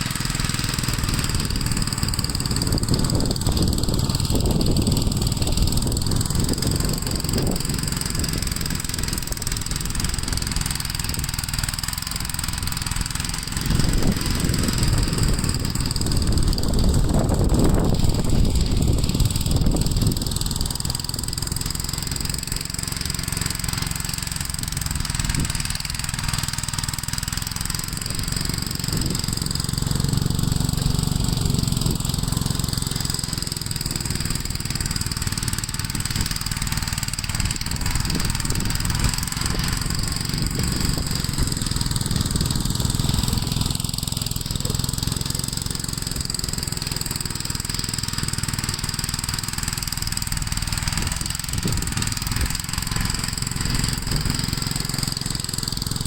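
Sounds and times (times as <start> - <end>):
walk-behind tractor engine running: 0.0 - 56.0.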